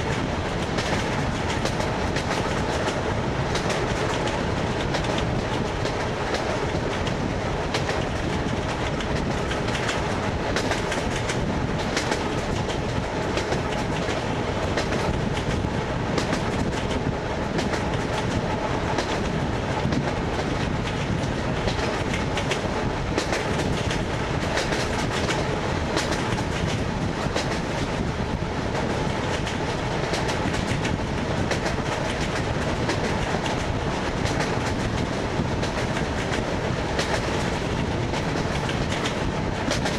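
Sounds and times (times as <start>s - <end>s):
train rumble: 0.0s - 39.9s
train wheels clattering over rail joints: 0.0s - 39.9s.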